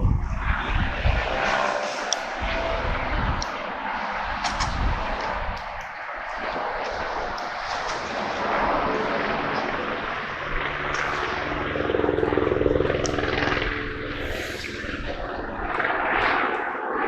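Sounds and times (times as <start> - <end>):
helicopter rotor drone: 0.0 - 17.0.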